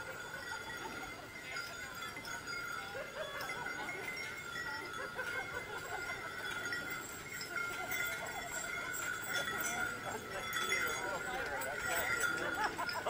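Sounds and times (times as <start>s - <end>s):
sleigh bells jingling: 0.0s - 13.0s.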